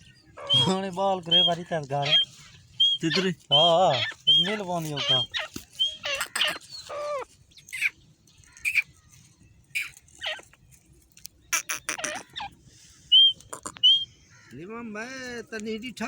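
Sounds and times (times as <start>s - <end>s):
francolin calling: 0.0s - 9.0s, 9.7s - 10.6s, 11.5s - 14.6s.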